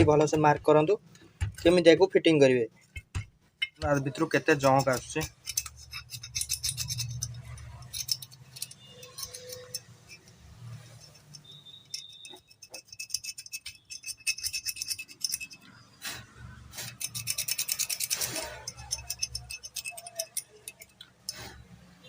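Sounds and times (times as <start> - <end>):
metallic clicks of tools: 2.8 - 21.6.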